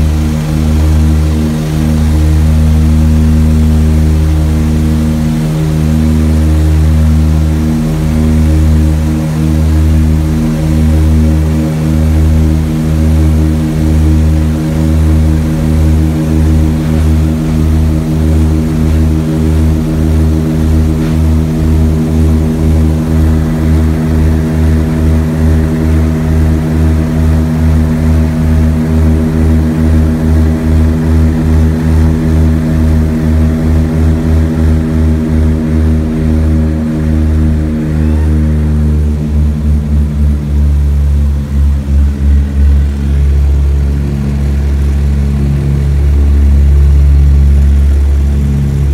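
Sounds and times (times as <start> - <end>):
propeller aircraft engines throbbing: 0.0 - 48.9.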